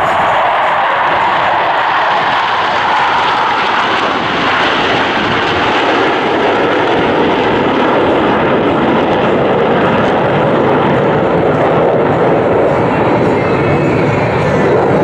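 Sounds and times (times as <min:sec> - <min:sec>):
jets flying past overhead: 0:00.0 - 0:15.0.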